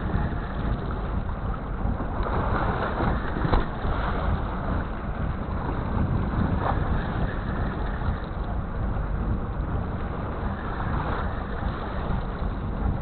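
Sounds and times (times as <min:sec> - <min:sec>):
rushing wind: 0:00.0 - 0:13.0
sea noise: 0:00.0 - 0:13.0
wind buffeting microphone: 0:00.0 - 0:13.0.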